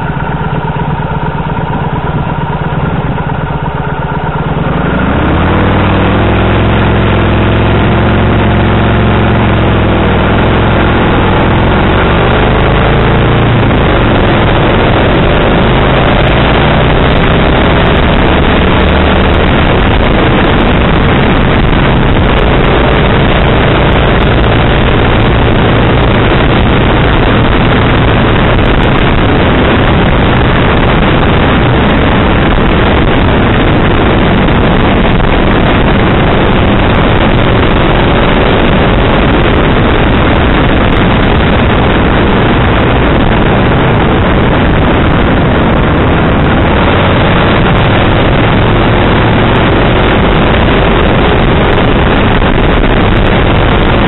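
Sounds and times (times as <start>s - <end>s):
motorcycle engine accelerating: 0.0s - 54.0s
wind rush on microphone: 0.0s - 54.0s.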